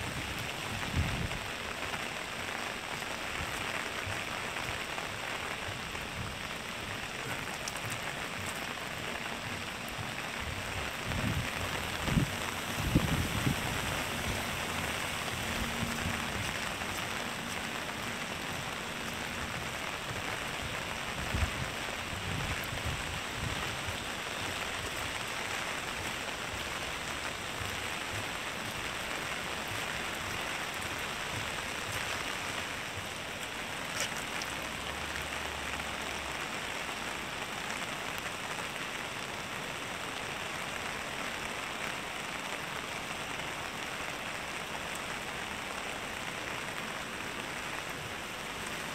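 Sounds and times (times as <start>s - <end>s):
rain on pavement and water: 0.0s - 48.9s.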